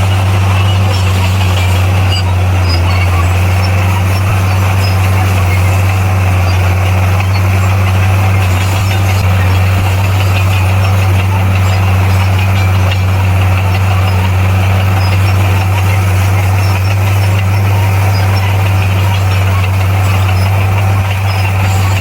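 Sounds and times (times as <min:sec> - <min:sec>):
bulldozer diesel engine droning: 0:00.0 - 0:22.0.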